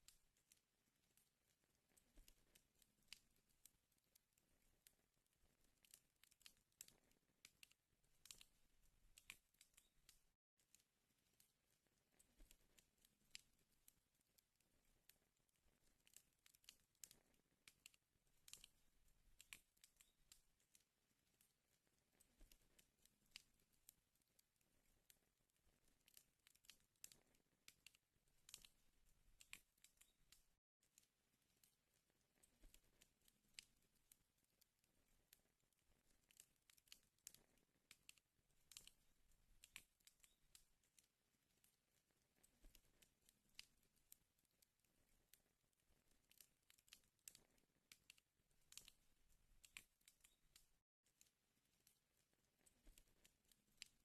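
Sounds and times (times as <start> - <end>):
fireplace fire crackling: 0.0 - 50.8, 51.6 - 54.0.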